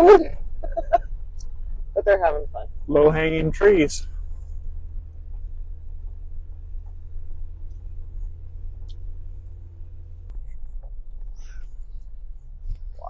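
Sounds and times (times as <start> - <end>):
engine low rumble: 0.0 - 13.0
faint hum: 0.0 - 13.0.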